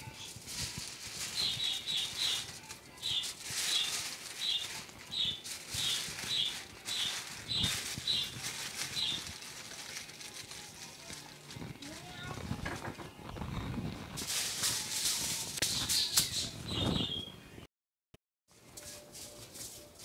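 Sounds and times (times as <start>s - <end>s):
aluminium foil crinkling: 0.0s - 17.0s, 18.5s - 20.0s.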